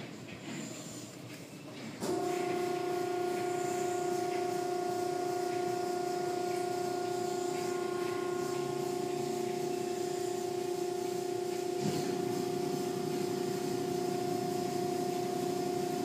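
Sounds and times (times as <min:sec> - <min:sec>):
car wash machinery humming: 0:01.9 - 0:16.0.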